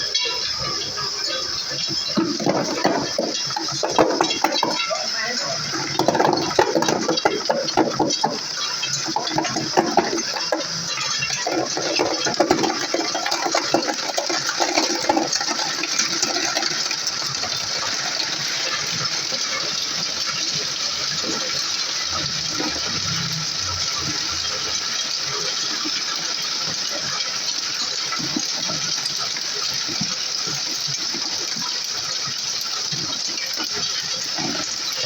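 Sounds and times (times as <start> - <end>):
ice clinking and clattering: 0.0 - 35.0
ice machine hissing: 0.0 - 35.0.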